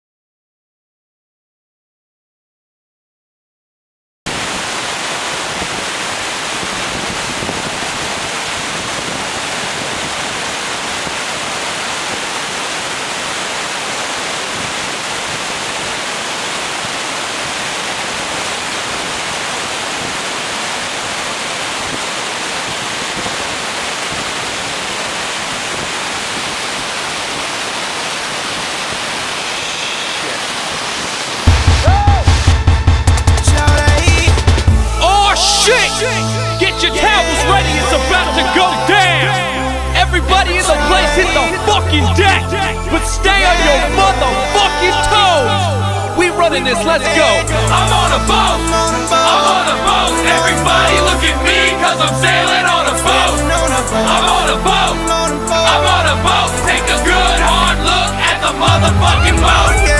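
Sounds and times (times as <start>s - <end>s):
river rapids rushing: 4.3s - 32.4s, 33.6s - 59.9s.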